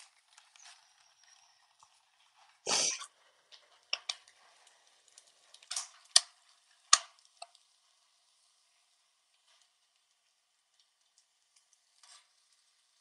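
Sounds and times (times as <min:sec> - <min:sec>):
food sizzling on griddle: 0:00.0 - 0:13.0.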